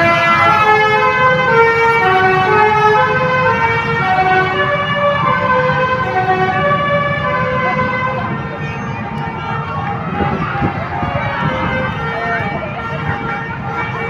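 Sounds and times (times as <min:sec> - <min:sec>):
multi-tone musical bus horn: 0:00.0 - 0:14.0.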